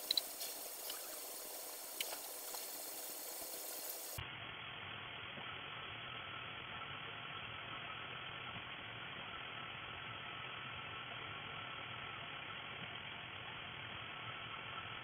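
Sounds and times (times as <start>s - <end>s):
dental equipment hiss and hum: 0.0s - 15.0s.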